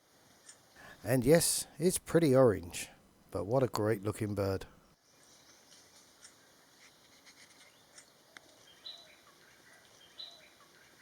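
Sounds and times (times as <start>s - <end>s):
forest ambience: 0.0s - 11.0s.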